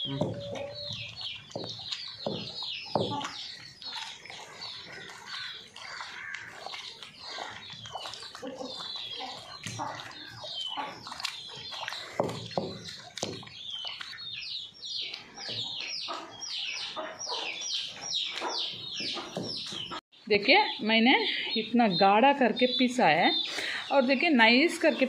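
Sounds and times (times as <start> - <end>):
poultry peeping: 0.0 - 25.0.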